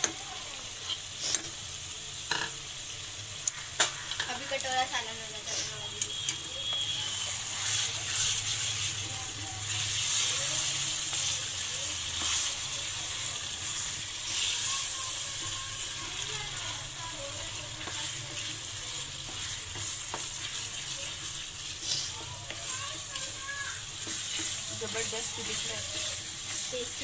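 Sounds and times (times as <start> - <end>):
spoon stirring and scraping pan: 0.0 - 1.6, 3.4 - 27.0
food sizzling in oil: 0.0 - 27.0.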